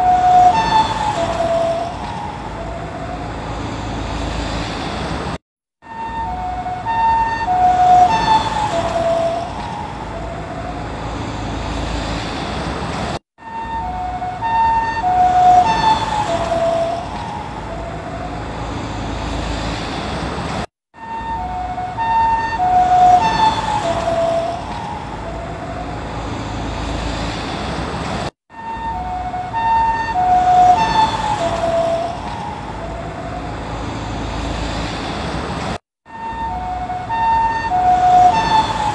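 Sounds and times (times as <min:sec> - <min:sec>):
two-tone ambulance siren passing: 0:00.0 - 0:05.0, 0:05.8 - 0:12.8, 0:13.4 - 0:20.0, 0:21.0 - 0:27.4, 0:28.5 - 0:35.0, 0:36.0 - 0:38.9
road noise: 0:00.0 - 0:38.9.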